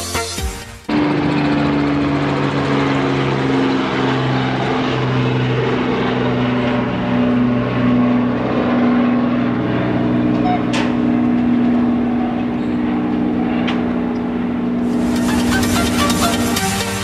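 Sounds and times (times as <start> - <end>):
small helicopter flying past: 0.9 - 17.0.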